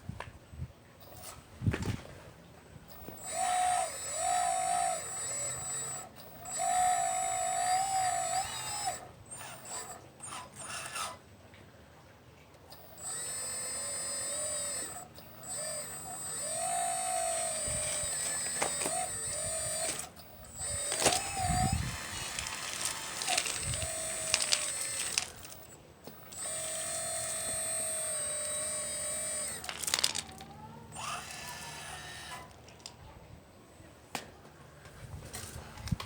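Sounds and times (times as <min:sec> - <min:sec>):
model motors whining: 0:01.0 - 0:11.3, 0:12.6 - 0:33.3.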